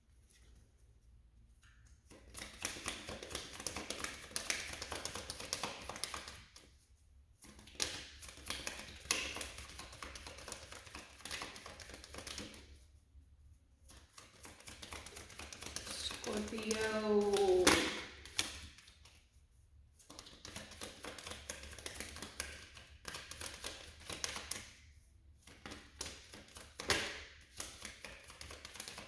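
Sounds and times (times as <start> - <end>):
cards being shuffled: 2.1 - 6.7, 7.4 - 12.7, 13.9 - 19.2, 20.1 - 24.8, 25.4 - 29.0.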